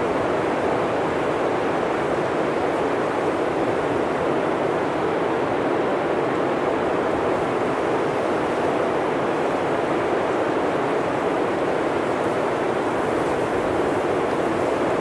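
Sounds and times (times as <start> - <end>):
blizzard wind through forest: 0.0 - 15.0.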